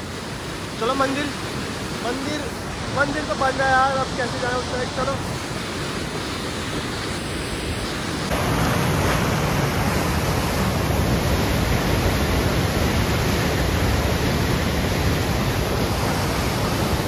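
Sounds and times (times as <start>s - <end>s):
water rushing down a canal: 0.0s - 17.0s.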